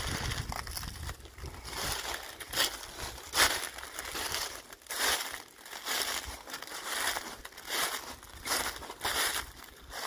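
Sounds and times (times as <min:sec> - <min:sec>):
footsteps crunching through dry leaves: 0:00.0 - 0:10.0.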